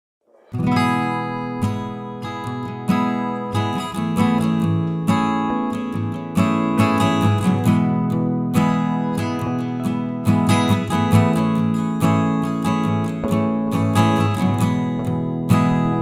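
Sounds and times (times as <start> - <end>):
acoustic guitar strumming: 0.3 - 16.0.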